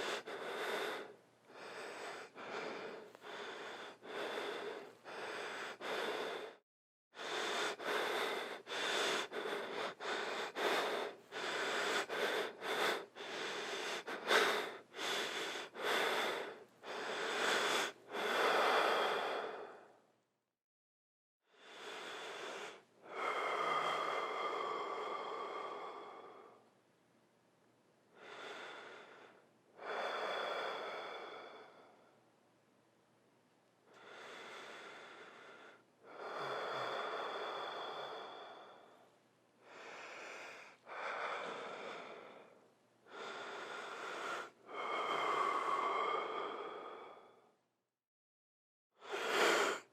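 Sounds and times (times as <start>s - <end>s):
person breathing heavily: 0.0s - 6.6s, 7.2s - 20.1s, 21.5s - 26.7s, 28.1s - 32.2s, 33.9s - 47.6s, 49.0s - 49.9s.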